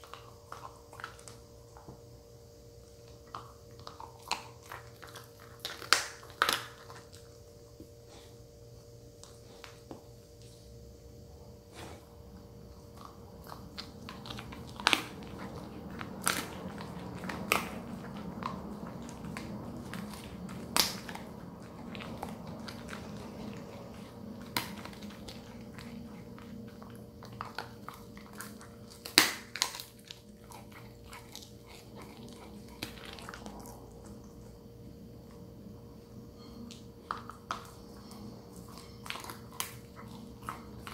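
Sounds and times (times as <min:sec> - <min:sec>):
dog chewing a bone: 0:00.0 - 0:10.9, 0:11.5 - 0:40.9.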